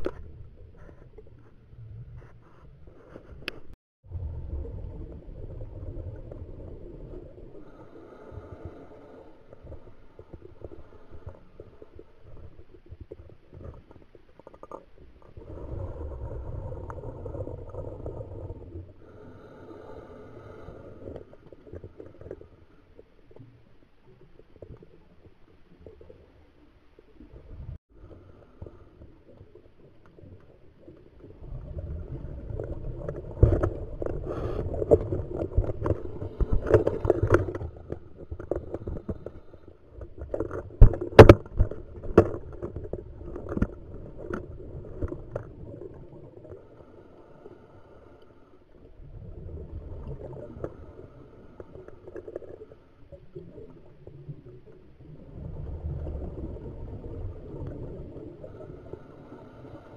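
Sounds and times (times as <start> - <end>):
underwater bubbles gurgling: 3.4 - 59.9.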